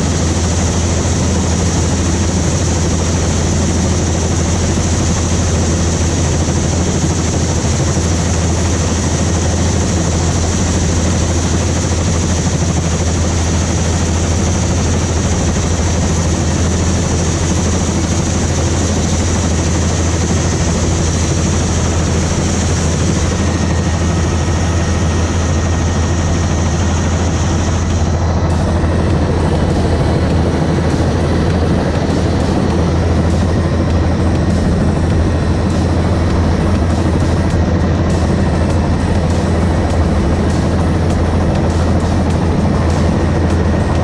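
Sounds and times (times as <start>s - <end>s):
helicopter rotor and engine drone: 0.0s - 44.0s
wind noise: 0.0s - 44.0s.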